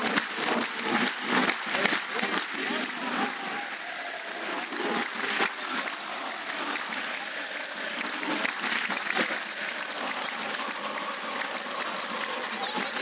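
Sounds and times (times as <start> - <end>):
stadium crowd applauding: 0.0 - 13.0.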